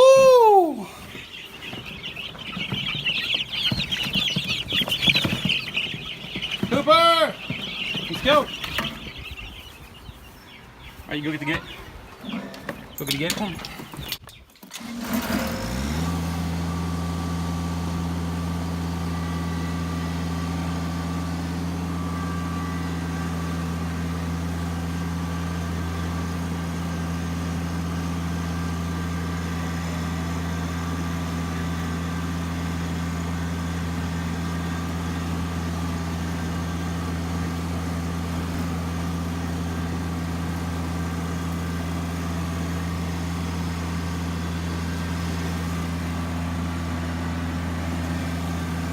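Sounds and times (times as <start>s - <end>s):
vehicle engine idling: 0.0s - 12.2s, 16.2s - 48.9s.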